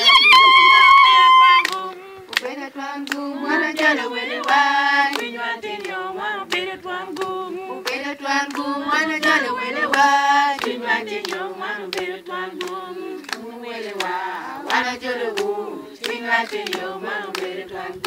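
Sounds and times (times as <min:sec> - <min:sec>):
women singing together: 0:00.0 - 0:18.0
hand claps: 0:01.3 - 0:17.7.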